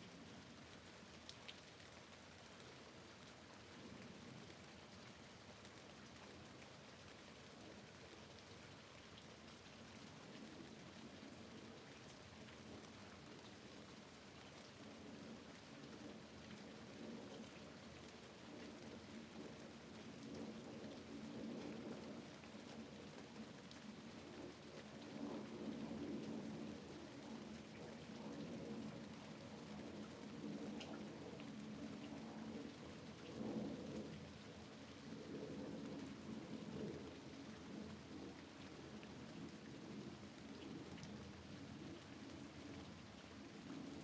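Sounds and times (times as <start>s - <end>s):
faint rain: 0.0s - 44.0s.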